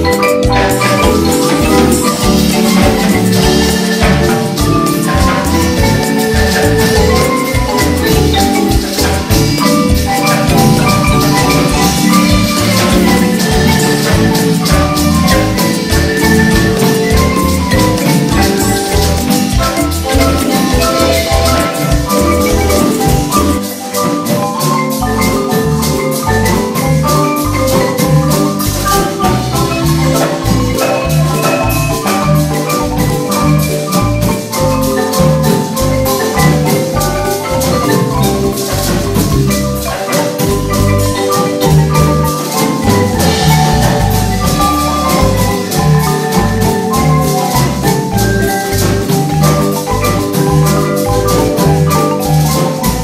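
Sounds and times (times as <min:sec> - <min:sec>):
drums beat: 0:00.0 - 0:53.0
marimba runs: 0:00.0 - 0:53.0.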